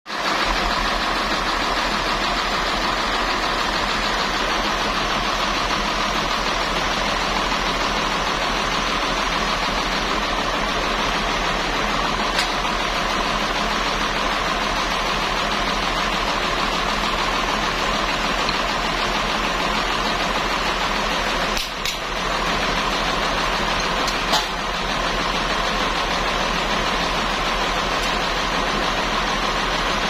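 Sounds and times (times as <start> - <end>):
engine running steadily: 0.1 - 30.0.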